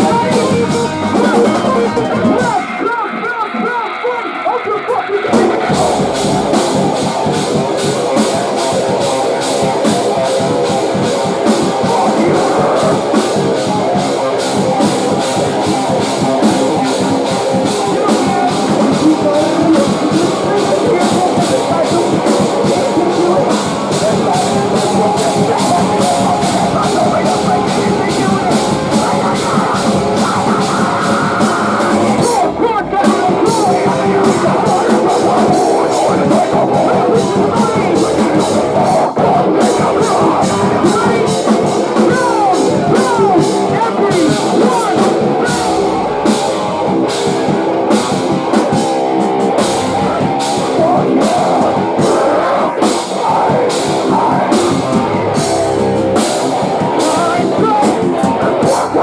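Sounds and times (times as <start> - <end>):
distorted guitars: 0.0 - 59.0
fast driving drums: 0.0 - 59.0
heavy rock band playing: 0.0 - 59.0.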